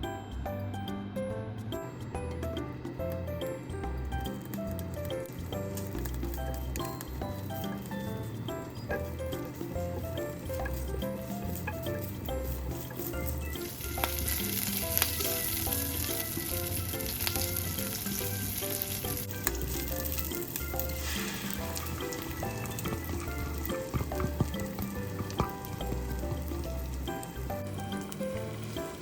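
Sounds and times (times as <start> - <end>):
food sizzling in oil: 5.6 - 29.0.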